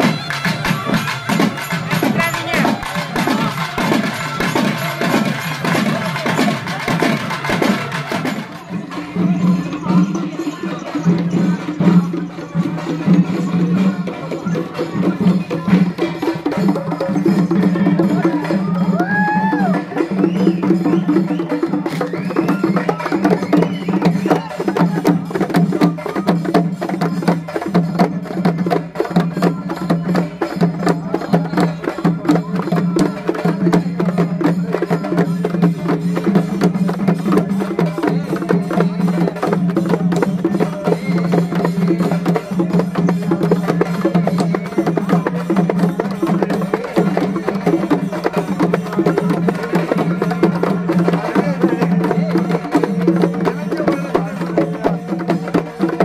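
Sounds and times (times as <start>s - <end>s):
fast dense drum rhythm: 0.0s - 56.0s.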